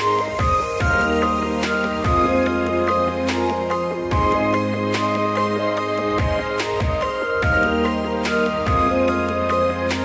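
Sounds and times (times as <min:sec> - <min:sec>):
instrumental music with drum beat: 0:00.0 - 0:10.0.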